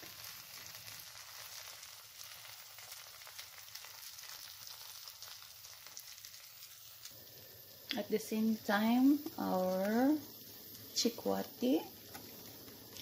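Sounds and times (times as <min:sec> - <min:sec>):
batter sizzling in a frying pan: 0:00.0 - 0:13.0.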